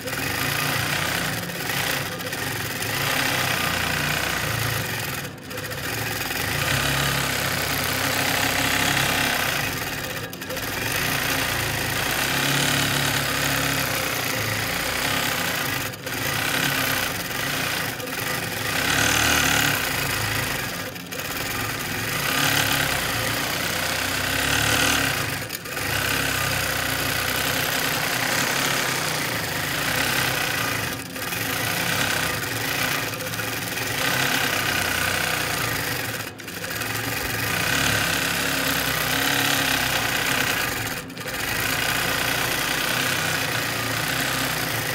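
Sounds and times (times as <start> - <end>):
quilting machine stitching: 0.0 - 44.9.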